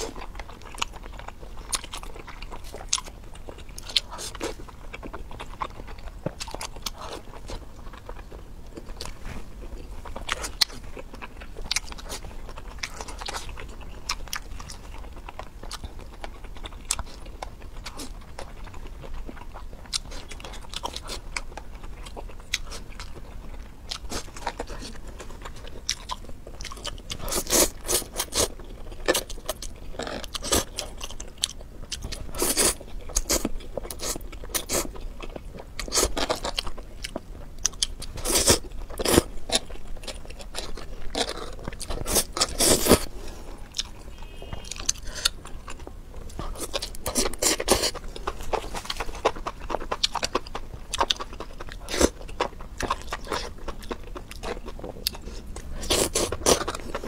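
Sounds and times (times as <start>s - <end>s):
person chewing noodles: 0.0s - 57.0s.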